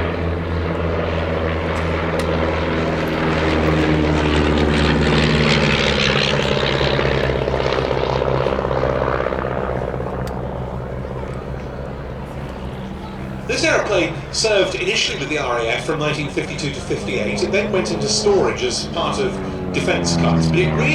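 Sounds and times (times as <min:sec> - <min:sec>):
propeller plane passing overhead: 0:00.0 - 0:20.9.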